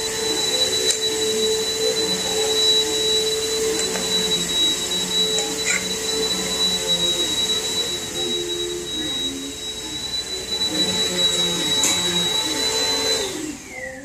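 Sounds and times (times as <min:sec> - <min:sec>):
appliance motor whining: 0:00.0 - 0:14.0.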